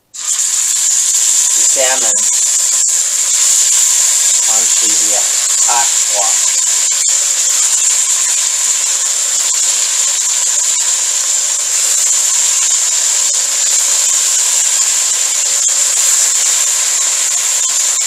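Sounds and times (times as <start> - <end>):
fish sizzling in hot oil: 0.0 - 18.0.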